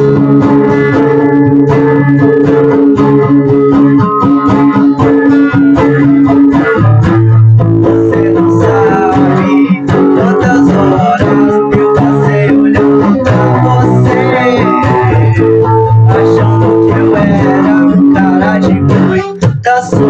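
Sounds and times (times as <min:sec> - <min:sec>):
overdriven acoustic guitar chords: 0:00.0 - 0:20.0.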